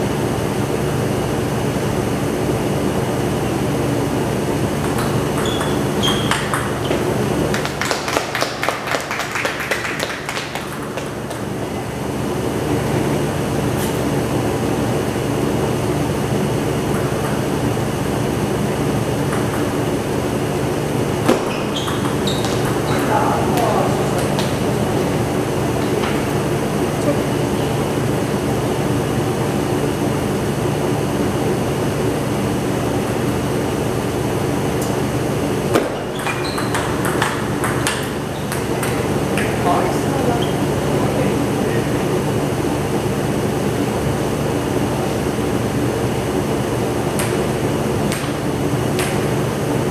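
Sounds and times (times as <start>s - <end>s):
air conditioning hum: 0.0s - 49.9s.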